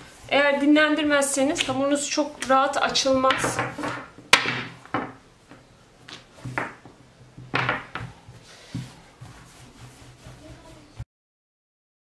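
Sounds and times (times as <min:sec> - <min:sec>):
dough rolling swishes: 0:00.0 - 0:04.2, 0:05.4 - 0:11.0.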